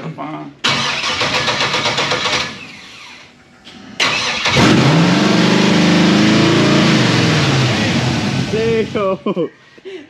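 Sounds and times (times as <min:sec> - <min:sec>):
car engine starting and idling: 0:00.6 - 0:09.2.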